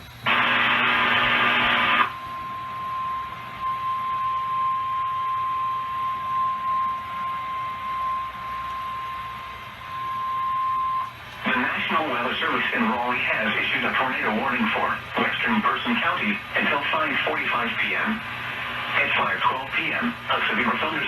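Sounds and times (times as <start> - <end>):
harsh buzzing data burst: 0.0 - 21.0
steady warning alarm tone: 0.2 - 21.0.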